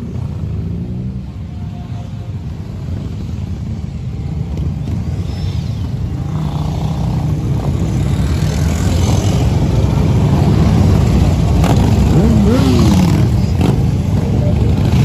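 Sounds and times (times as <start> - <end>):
motorcycle engines rumbling: 0.0 - 15.0.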